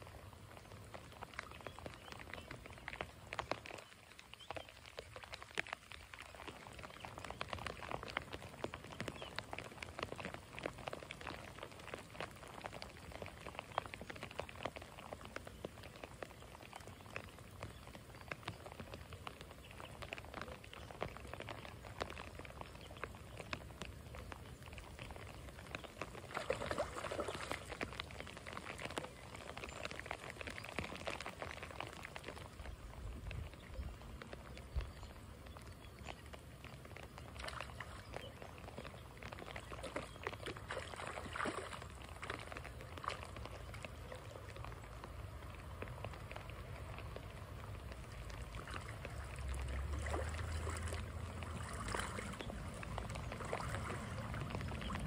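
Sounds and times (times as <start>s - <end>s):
creek water flowing: 0.0s - 55.0s
rain pattering: 0.0s - 55.0s.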